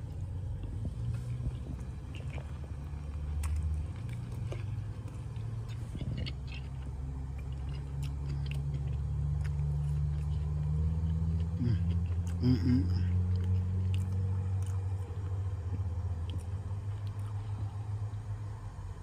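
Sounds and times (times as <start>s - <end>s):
steady low hum: 0.0s - 19.0s
person chewing: 0.4s - 17.9s.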